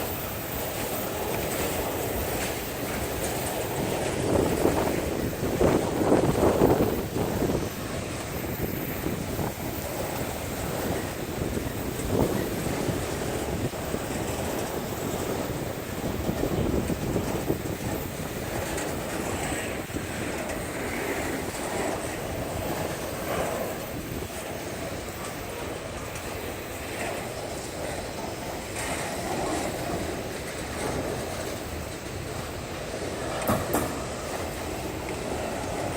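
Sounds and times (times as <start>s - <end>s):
steel wheels rumbling on rails: 0.0s - 35.9s.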